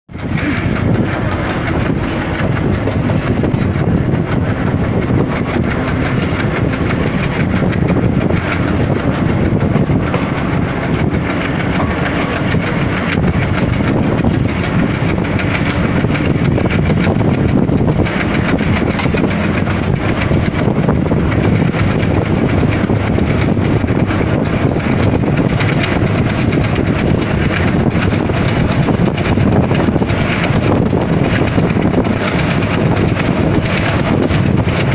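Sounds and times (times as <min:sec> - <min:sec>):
train wheels on rails: 0:00.1 - 0:34.9.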